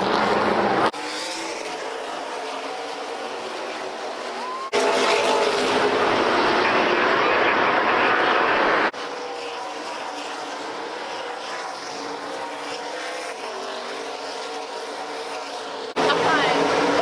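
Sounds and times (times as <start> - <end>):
race truck engines roaring: 0.0 - 17.0.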